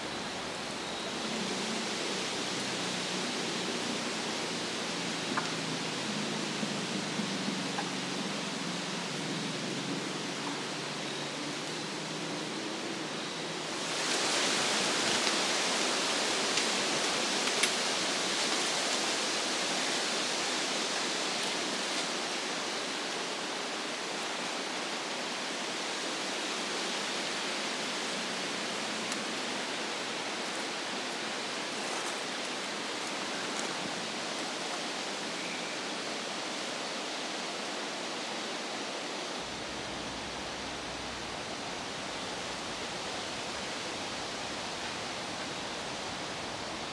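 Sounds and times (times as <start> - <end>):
wind rushing through trees: 0.0 - 46.9.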